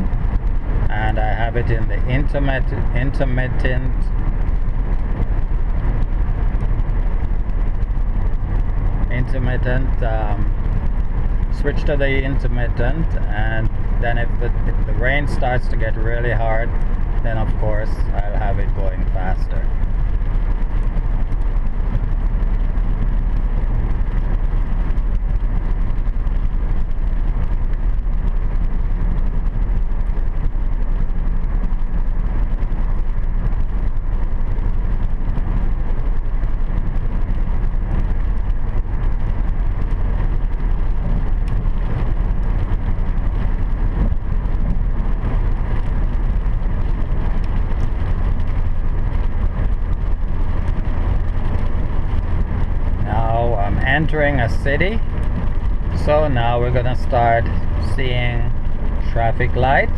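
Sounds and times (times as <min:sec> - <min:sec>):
car cabin engine rumble: 0:00.0 - 0:59.9.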